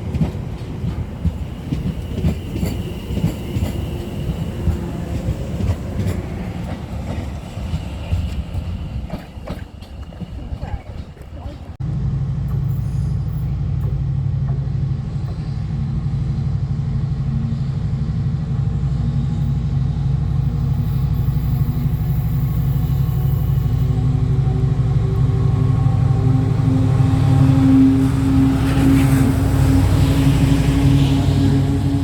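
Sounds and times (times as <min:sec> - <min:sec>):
train rumbling past: 0:00.0 - 0:32.0.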